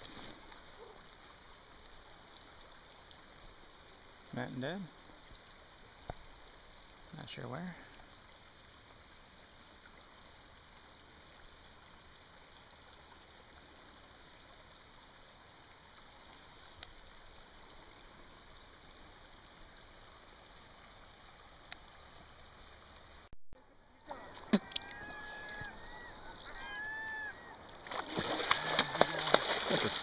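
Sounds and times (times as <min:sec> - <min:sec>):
creek flowing over rocks: 0:00.0 - 0:30.0.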